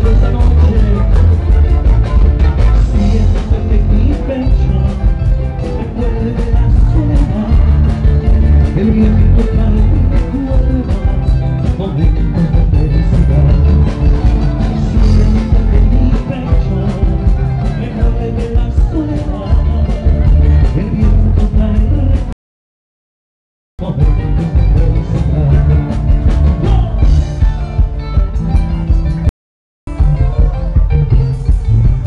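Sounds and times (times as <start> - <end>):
band playing loud music: 0.0 - 22.4, 23.8 - 29.3, 29.9 - 32.0.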